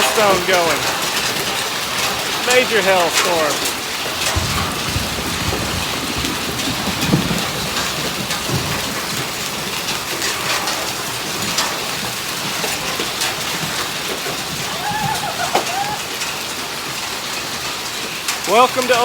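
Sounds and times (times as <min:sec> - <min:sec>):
hailstones pelting down: 0:00.0 - 0:19.0.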